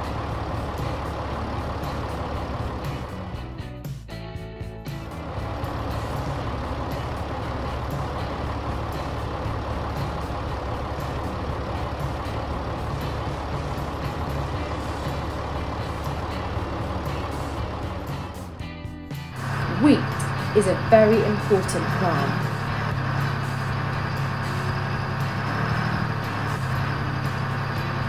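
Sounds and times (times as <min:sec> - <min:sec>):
tractor engine running: 0:00.0 - 0:04.0, 0:04.6 - 0:28.0.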